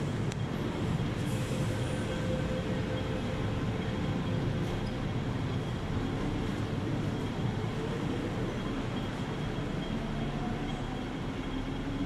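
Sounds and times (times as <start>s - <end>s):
train equipment hum: 0.0s - 12.0s
train low rumble: 0.0s - 12.0s.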